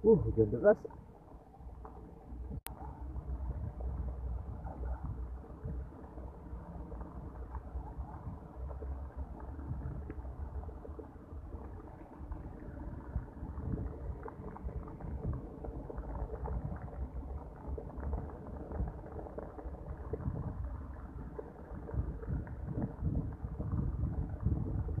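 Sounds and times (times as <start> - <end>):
gusting wind: 0.0 - 25.0.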